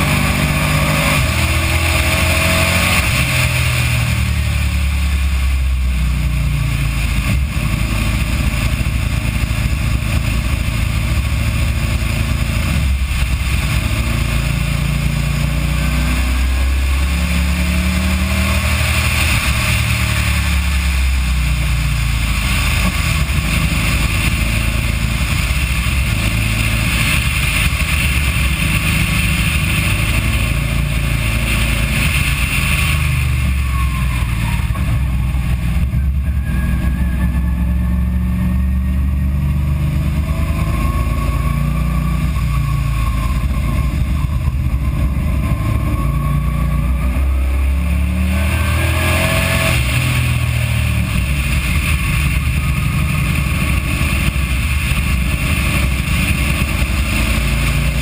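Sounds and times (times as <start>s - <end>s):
car engine running: 0.0s - 58.0s
road and wind noise: 0.0s - 58.0s.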